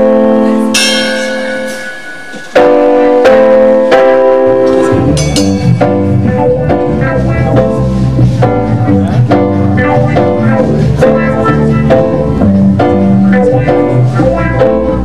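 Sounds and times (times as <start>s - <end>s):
reggae band playing: 0.0s - 15.0s.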